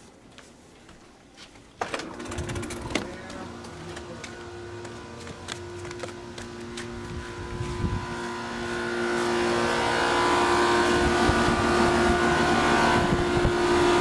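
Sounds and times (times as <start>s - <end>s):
air conditioner compressors humming: 0.0s - 14.0s
condenser fans rushing: 1.8s - 14.0s.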